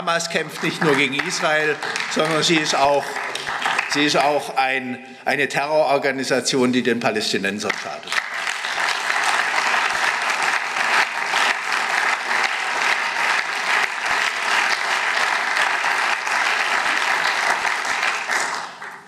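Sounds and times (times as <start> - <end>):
crowd applauding: 0.0 - 4.6, 7.7 - 19.0.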